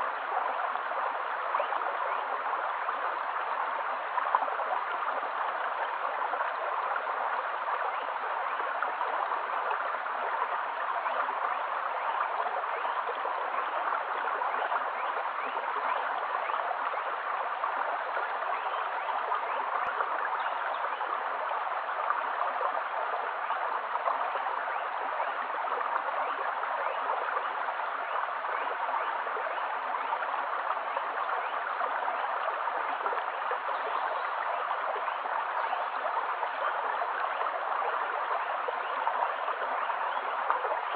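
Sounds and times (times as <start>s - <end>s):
stream flowing over pebbles: 0.0s - 40.9s.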